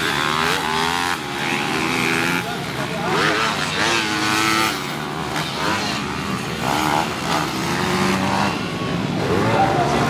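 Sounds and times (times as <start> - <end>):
pit bike engines revving: 0.0 - 10.0.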